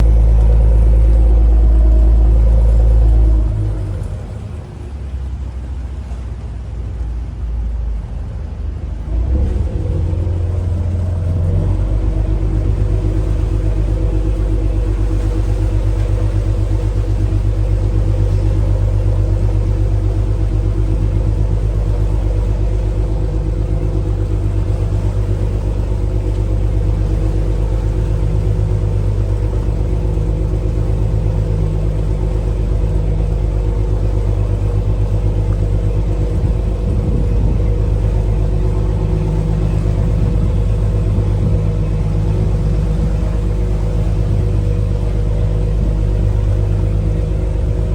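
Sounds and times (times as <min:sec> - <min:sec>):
ferry diesel engine drone: 0:00.0 - 0:47.9.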